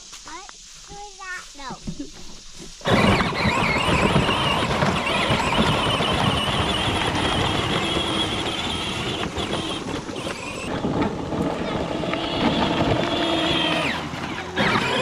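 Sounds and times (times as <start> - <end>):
wheels rolling through mud: 0.0 - 15.0
electric motor whining: 2.8 - 15.0.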